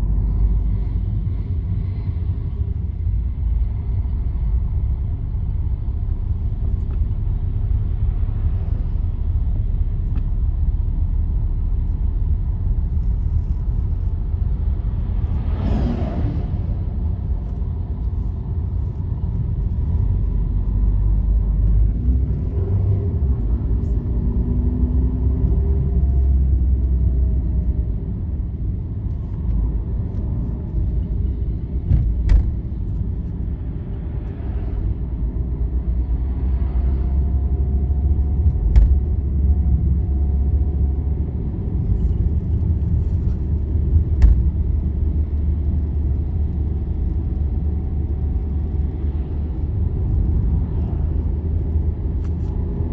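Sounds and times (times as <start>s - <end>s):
vehicle rumble on highway: 0.0s - 52.9s.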